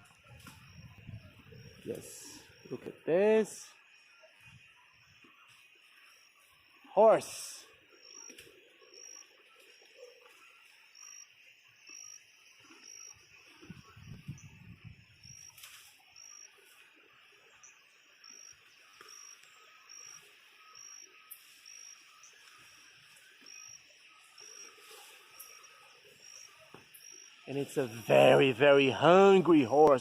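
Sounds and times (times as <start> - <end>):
insect chirping: 0.0 - 30.0
steady high insect buzz: 0.1 - 29.5.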